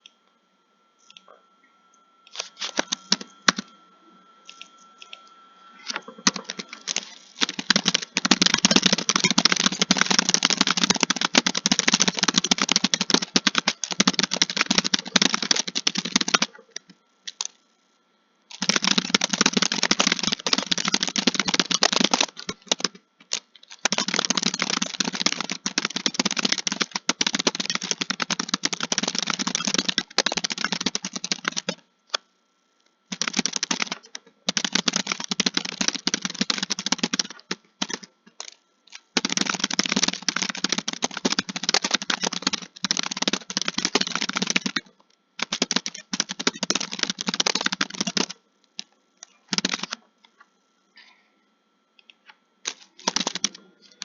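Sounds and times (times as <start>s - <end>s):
fast typing on computer keyboard: 2.3s - 3.7s, 6.0s - 17.6s, 18.5s - 32.2s, 33.1s - 50.0s, 52.6s - 54.0s.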